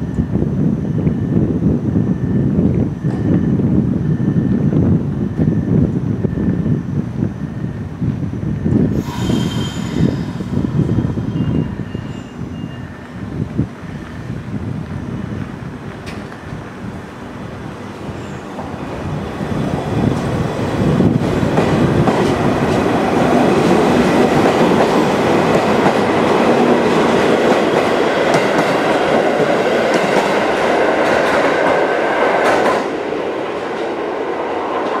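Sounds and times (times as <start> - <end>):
electric train passing: 0.0 - 35.0.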